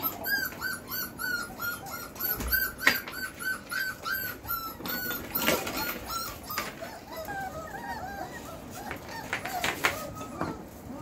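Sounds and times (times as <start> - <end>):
puppy whining: 0.0 - 11.0.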